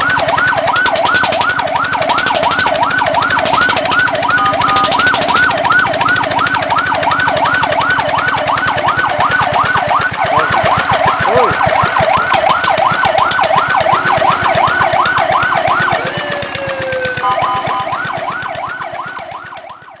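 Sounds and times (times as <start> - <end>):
fire truck siren yelping: 0.0 - 20.0.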